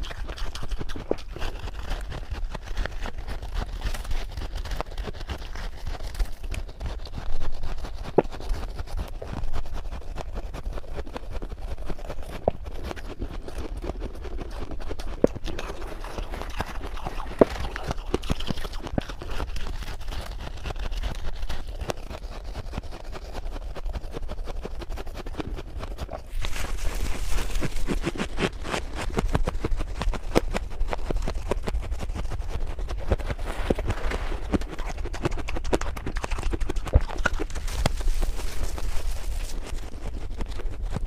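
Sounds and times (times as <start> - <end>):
frost being chewed: 0.0 - 41.0.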